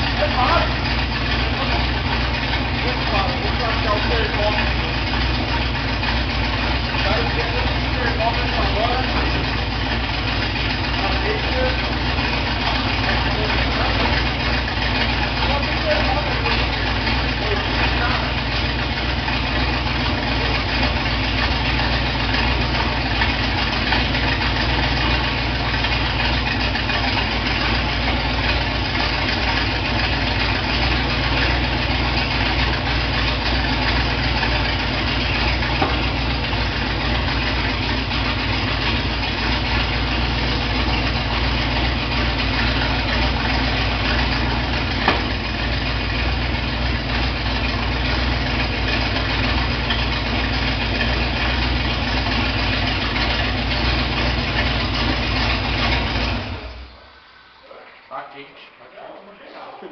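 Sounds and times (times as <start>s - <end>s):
engine idling with deep rumble: 0.0s - 59.9s.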